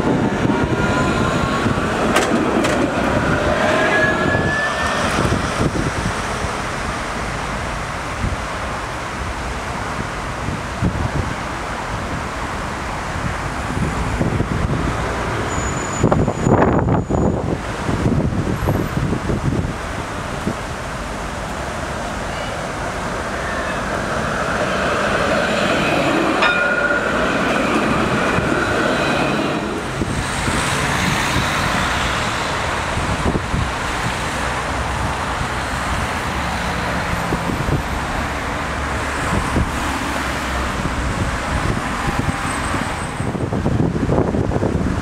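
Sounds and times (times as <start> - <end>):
tram rolling in: 0.0 - 45.0
tram rumbling on rails: 0.0 - 45.0.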